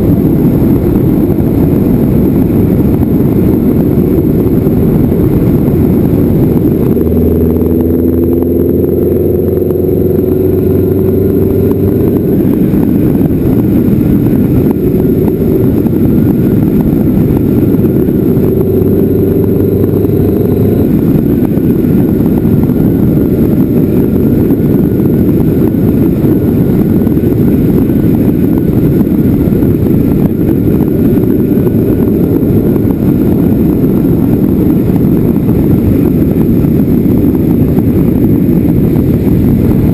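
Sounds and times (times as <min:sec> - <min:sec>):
vehicle engine tone: 0:00.0 - 0:39.9
wind rumble on microphone: 0:00.0 - 0:39.9.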